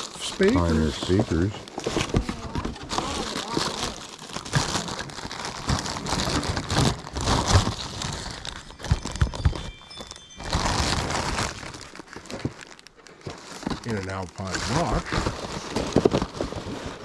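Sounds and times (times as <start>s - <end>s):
rustling: 0.0s - 17.0s
objects knocking and thudding: 0.4s - 14.0s, 14.7s - 17.0s.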